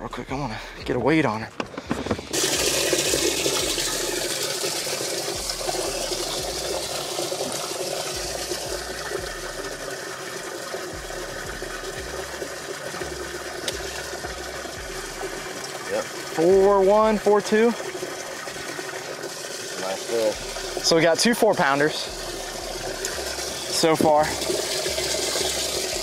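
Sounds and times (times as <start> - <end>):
water pump running: 0.0 - 26.0
water rushing: 1.0 - 26.0.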